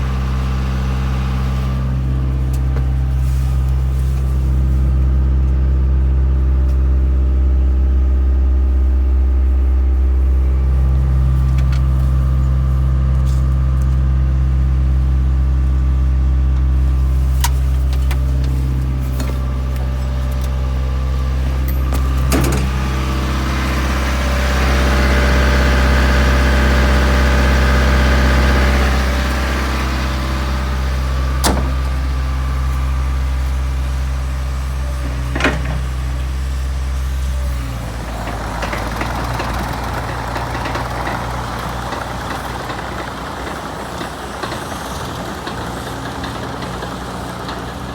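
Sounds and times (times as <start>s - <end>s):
diesel excavator engine running: 0.0s - 47.9s.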